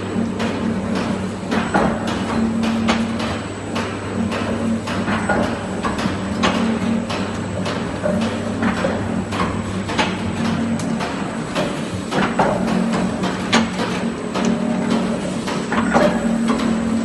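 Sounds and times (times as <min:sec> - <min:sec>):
machine clacks: 0:00.3 - 0:17.0.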